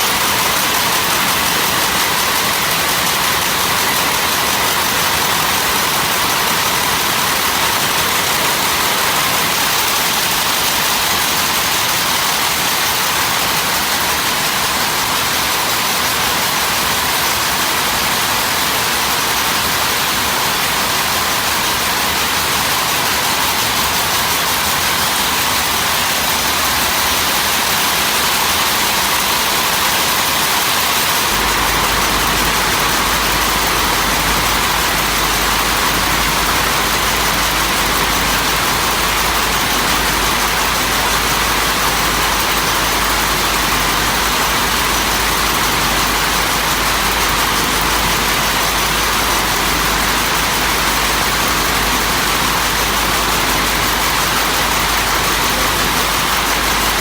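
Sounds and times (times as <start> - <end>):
loud steady hiss: 0.0 - 57.0.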